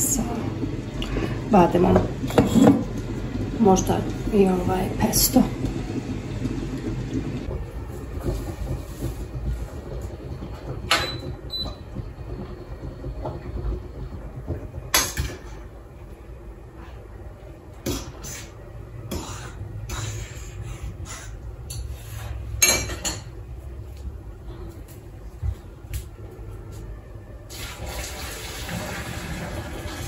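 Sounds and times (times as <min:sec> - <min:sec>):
steady low hum: 0:00.0 - 0:27.5.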